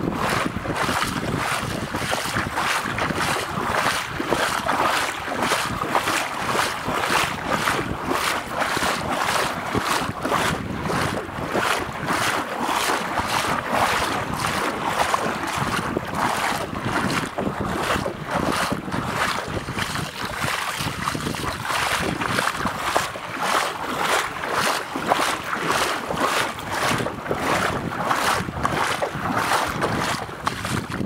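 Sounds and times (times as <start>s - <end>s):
feet wading through shallow water: 0.0s - 31.0s.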